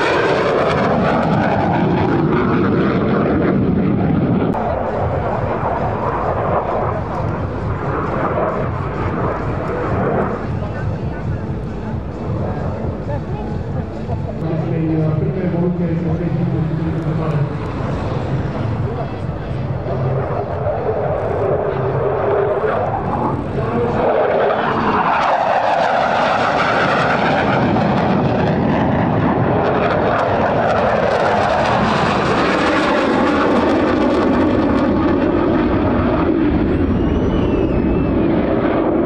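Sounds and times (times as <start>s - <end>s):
jet engine rush: 0.0s - 39.0s.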